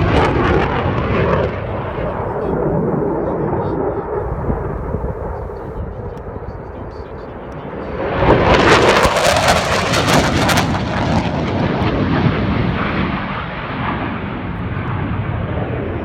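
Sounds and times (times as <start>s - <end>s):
fighter jet passing: 0.0s - 16.0s.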